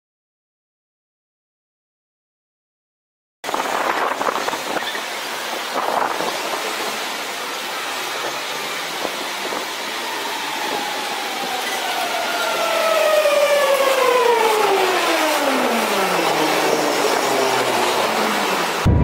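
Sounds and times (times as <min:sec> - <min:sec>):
train rushing noise: 0:03.5 - 0:19.0.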